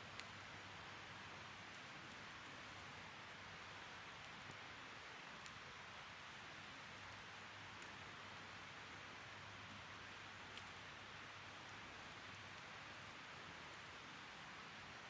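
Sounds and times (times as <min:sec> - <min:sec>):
wood fire hissing and crackling: 0:00.0 - 0:15.0.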